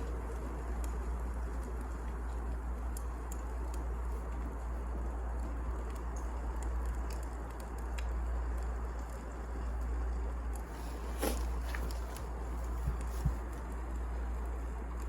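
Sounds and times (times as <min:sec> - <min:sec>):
burning logs crackling and popping: 0:00.0 - 0:15.0
fire rumbling and hissing: 0:00.0 - 0:15.0.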